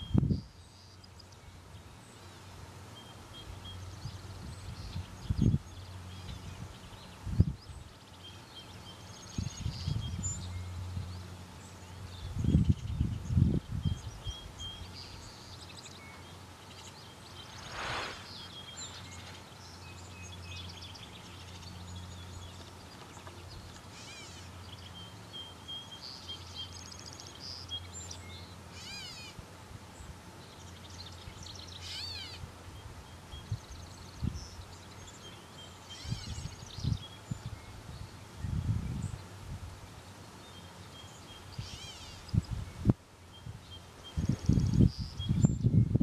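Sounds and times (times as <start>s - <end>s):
birds chirping and trilling: 0.0s - 29.4s, 30.0s - 46.0s.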